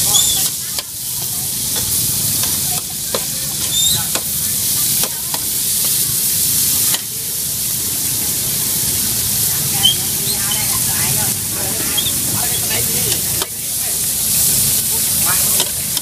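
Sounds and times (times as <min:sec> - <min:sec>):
noodles sizzling on metal pan: 0:00.0 - 0:16.0.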